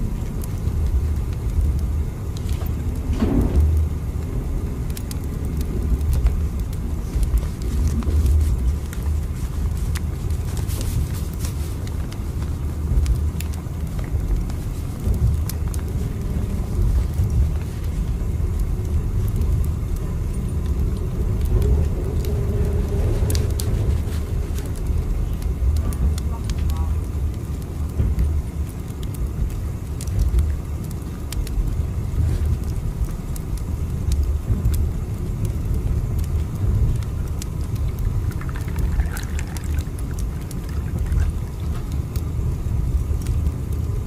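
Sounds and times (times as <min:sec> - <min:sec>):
train rumbling: 0:00.0 - 0:44.0
faint clicks and rattles: 0:04.9 - 0:42.3.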